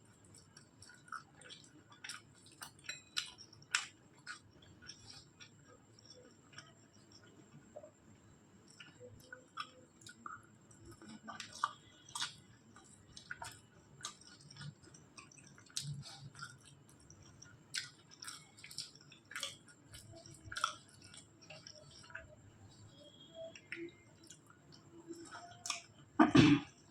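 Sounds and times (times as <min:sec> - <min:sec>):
person chewing food: 0:00.0 - 0:26.9.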